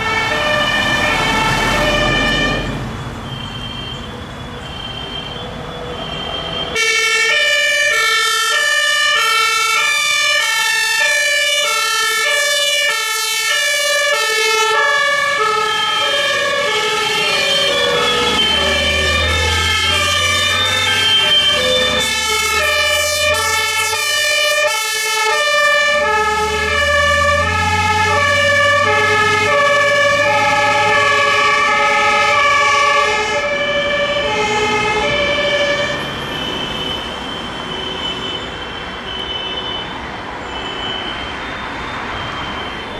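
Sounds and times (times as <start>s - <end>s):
heavy vehicle engine rumbling: 0.0s - 6.9s, 13.7s - 42.9s
two-tone fire engine sirens: 0.0s - 42.9s.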